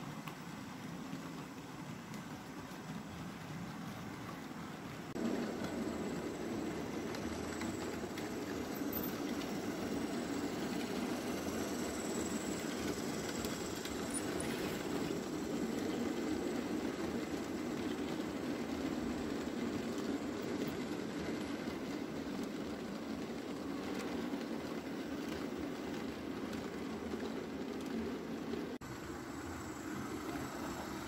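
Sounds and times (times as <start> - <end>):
model train wheels rumbling: 0.0 - 31.0.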